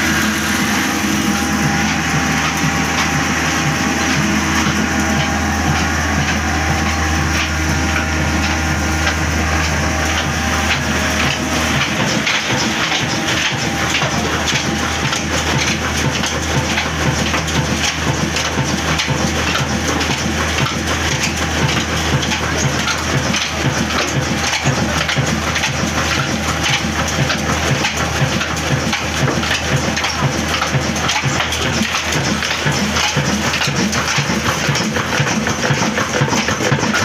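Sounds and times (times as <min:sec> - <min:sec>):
diesel engine driving grain mill: 0:00.0 - 0:37.0.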